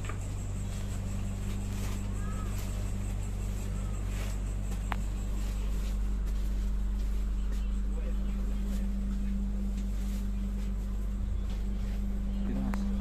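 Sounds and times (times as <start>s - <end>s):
train carriage hum: 0.0s - 13.0s.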